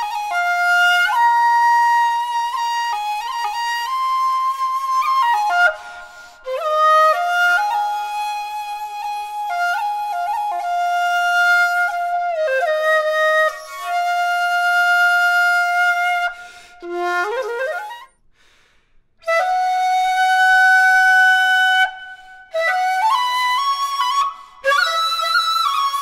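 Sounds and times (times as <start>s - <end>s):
shakuhachi flute playing: 0.0s - 18.2s, 19.2s - 26.0s.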